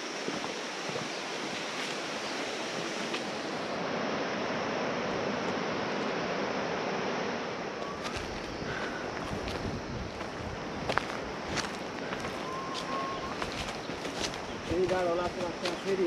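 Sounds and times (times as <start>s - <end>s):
river rushing: 0.0s - 9.2s, 10.2s - 16.0s.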